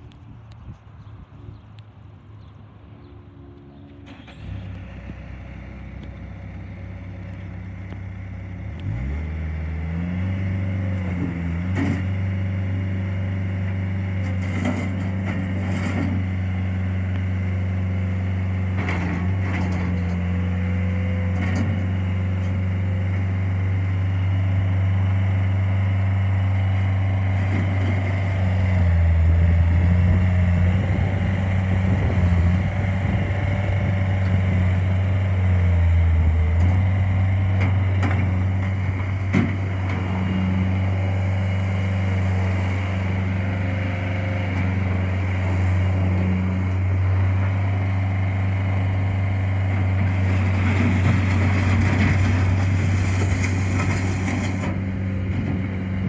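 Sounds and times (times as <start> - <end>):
diesel loader engine running: 0.0 - 56.0.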